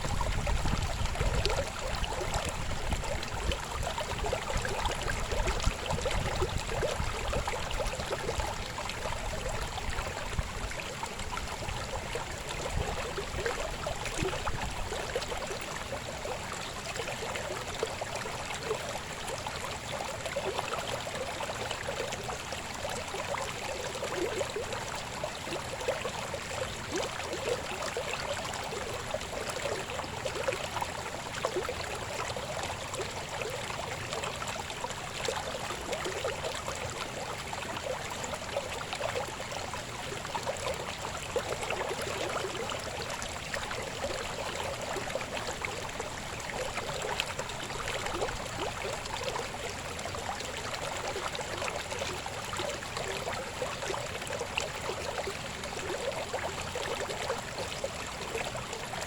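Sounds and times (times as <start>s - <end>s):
river babbling: 0.0s - 59.0s.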